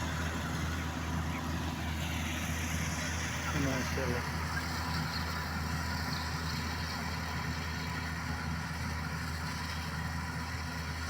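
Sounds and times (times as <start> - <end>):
harvester engine humming: 0.0 - 11.0.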